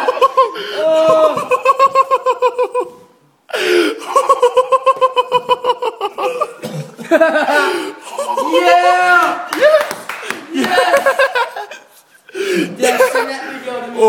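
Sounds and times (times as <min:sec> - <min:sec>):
people laughing hard: 0:00.0 - 0:13.5.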